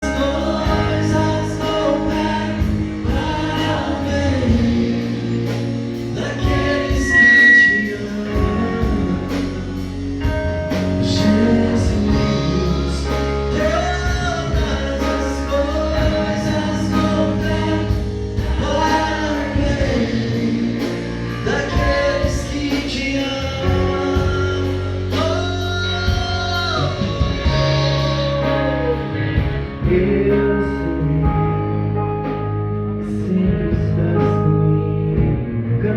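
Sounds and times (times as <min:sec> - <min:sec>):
bass: 0:00.0 - 0:35.9
church band playing gospel song: 0:00.0 - 0:35.9
person singing melody: 0:00.0 - 0:35.9.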